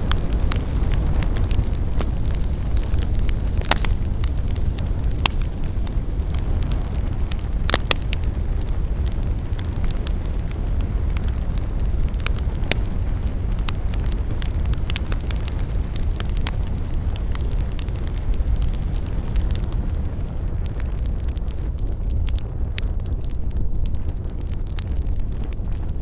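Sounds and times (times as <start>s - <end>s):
fire crackles and pops: 0.0s - 26.0s
fire rumbling in fireplace: 0.0s - 26.0s.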